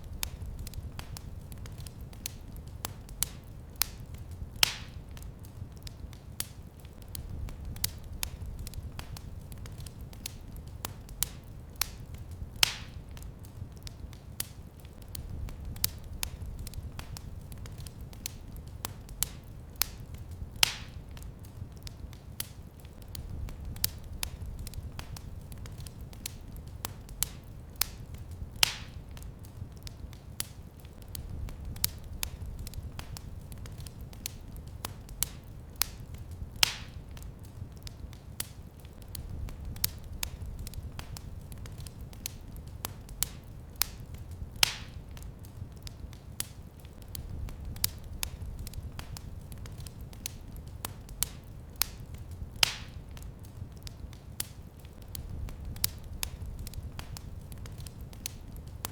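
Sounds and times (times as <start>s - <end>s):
low fire rumble: 0.0s - 58.9s
wood fire crackling: 0.0s - 58.9s.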